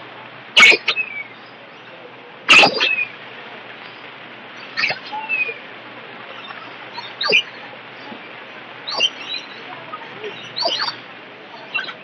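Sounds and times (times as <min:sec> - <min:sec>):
background hiss: 0:00.0 - 0:12.0
birds calling sharply: 0:00.6 - 0:03.2, 0:03.8 - 0:12.0.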